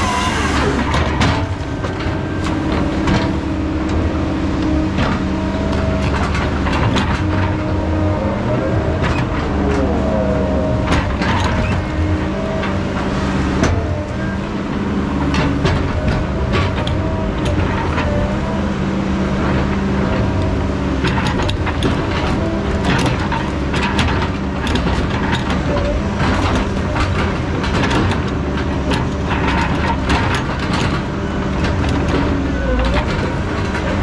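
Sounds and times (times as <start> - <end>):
diesel engine running: 0.0 - 34.0
knocks and clanks: 0.0 - 34.0.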